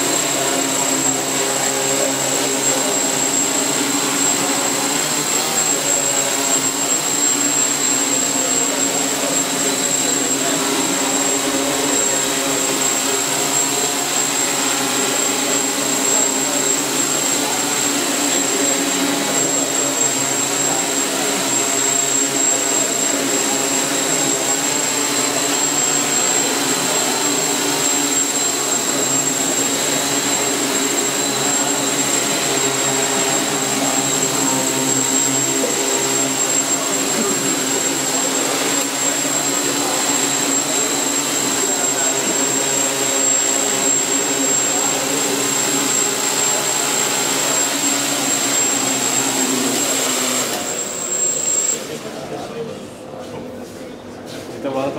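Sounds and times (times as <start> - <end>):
drone rotors buzzing: 0.0 - 52.2
high thin whine: 0.0 - 52.2.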